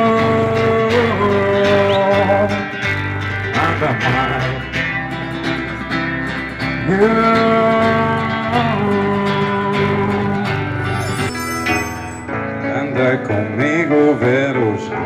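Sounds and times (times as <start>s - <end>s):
live band playing pop-rock: 0.0s - 15.0s.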